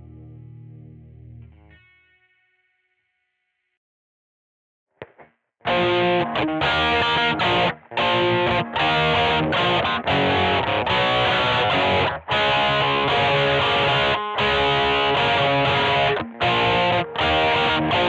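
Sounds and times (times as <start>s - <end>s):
distorted electric guitar: 0.0s - 2.4s, 5.0s - 18.0s.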